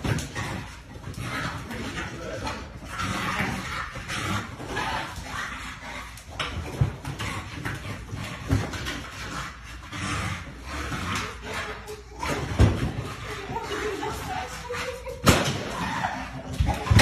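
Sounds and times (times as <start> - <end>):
dog making noises: 0.0 - 17.0.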